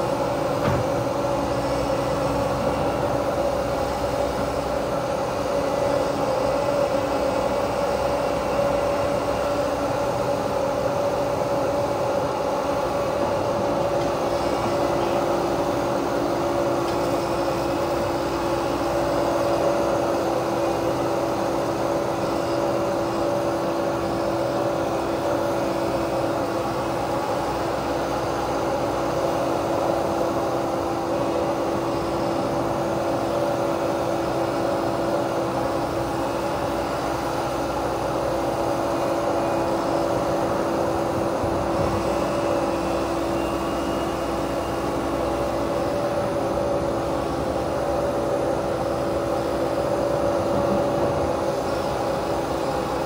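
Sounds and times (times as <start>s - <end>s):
excavator engine and hydraulics humming: 0.0s - 53.0s.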